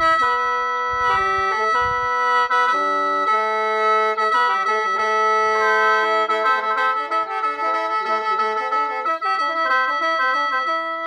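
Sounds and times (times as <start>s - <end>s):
free-reed mouth organ playing: 0.0s - 11.0s.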